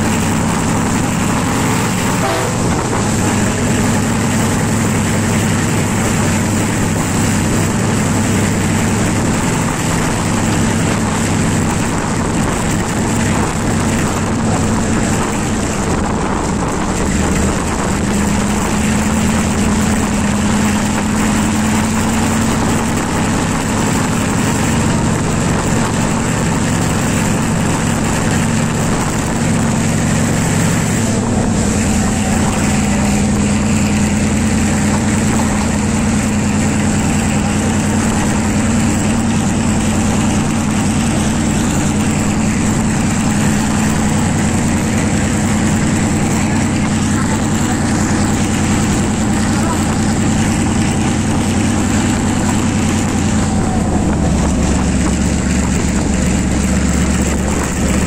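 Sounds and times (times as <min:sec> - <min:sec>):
diesel engine droning: 0:00.0 - 0:58.0
wheels rumbling on rail: 0:00.0 - 0:58.0.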